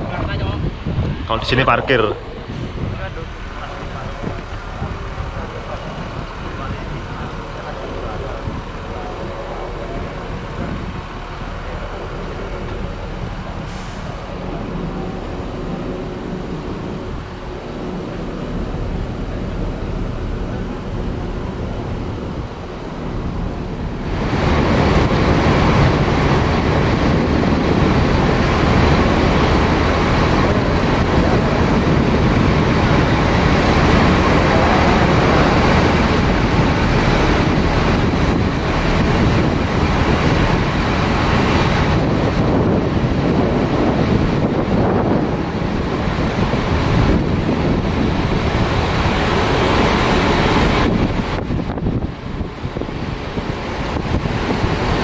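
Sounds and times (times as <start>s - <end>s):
diesel bus engines idling: 0.0s - 55.0s.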